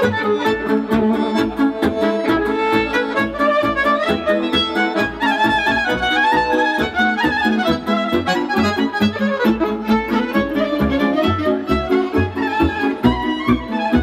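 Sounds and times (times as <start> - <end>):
accordion: 0.0 - 14.0
keyboard: 0.0 - 14.0
violin: 0.0 - 14.0.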